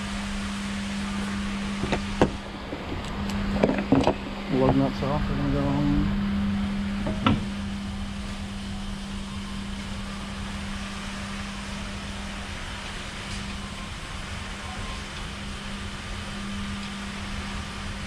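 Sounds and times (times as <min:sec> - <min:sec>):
shop machinery humming: 0:00.0 - 0:18.0.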